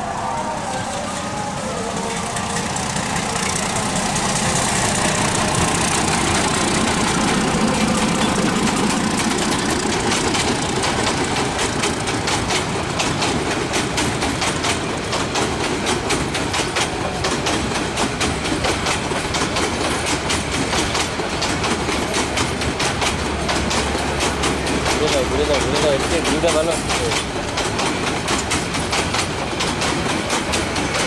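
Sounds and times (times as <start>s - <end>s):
diesel locomotive engine passing: 0.0s - 31.0s
train wheels clacking over rail joints: 0.7s - 31.0s.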